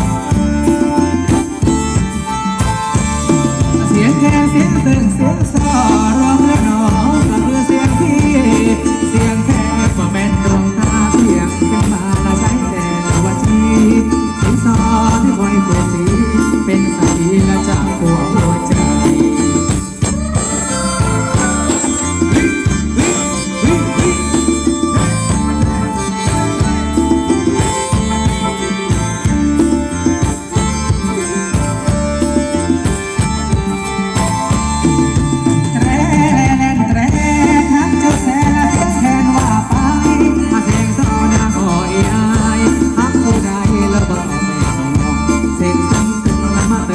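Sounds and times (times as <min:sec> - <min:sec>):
band playing dance music: 0:00.0 - 0:46.9
continuous bass: 0:00.0 - 0:46.9
wavering melody line: 0:00.0 - 0:46.9.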